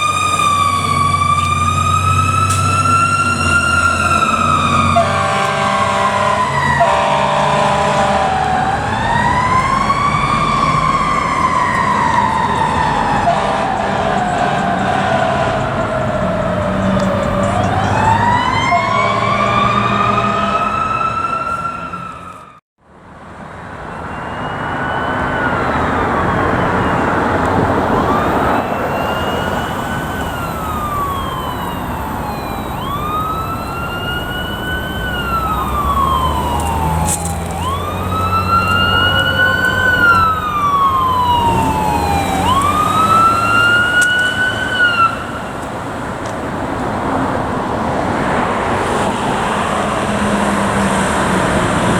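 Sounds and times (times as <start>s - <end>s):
electronic siren wail: 0.0s - 22.6s, 23.9s - 46.2s
fire truck siren rising glide: 0.0s - 51.9s.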